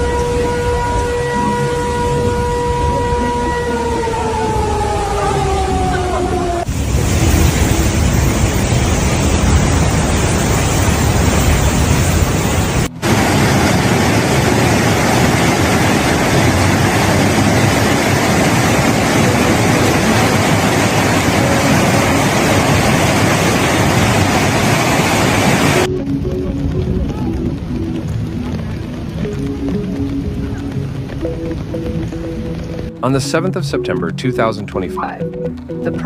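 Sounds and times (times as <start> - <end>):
floodwater rushing roar: 0.0 - 36.0.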